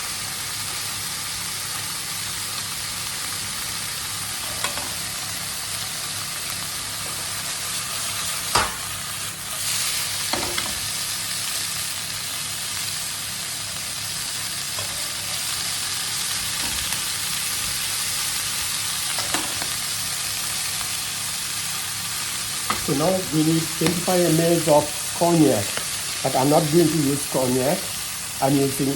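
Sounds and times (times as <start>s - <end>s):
livers and onions sizzling in a pan: 0.0s - 28.9s.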